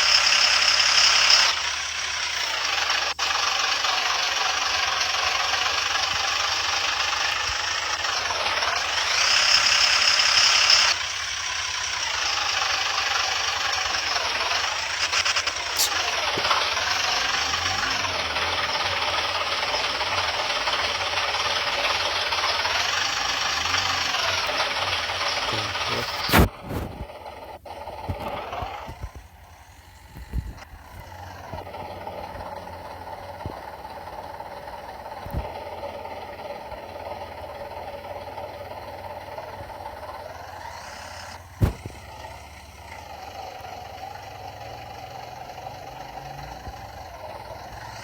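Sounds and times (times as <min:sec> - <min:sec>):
construction vehicle engine running: 0:00.0 - 0:48.0.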